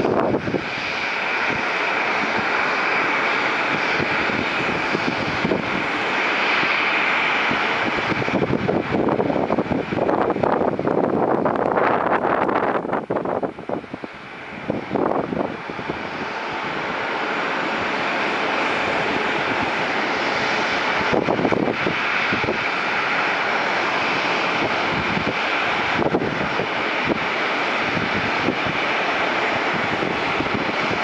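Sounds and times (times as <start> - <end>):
jet engine roar on landing: 0.0 - 31.0.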